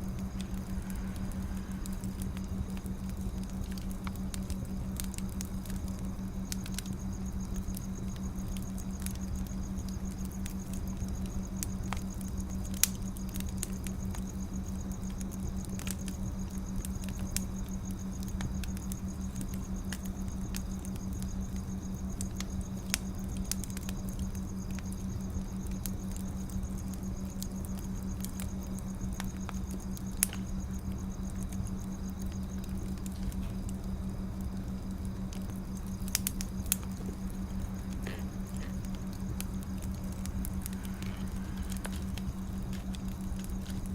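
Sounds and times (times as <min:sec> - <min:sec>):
steady low hum: 0:00.0 - 0:43.9
wood fire crackling and popping: 0:00.0 - 0:43.9.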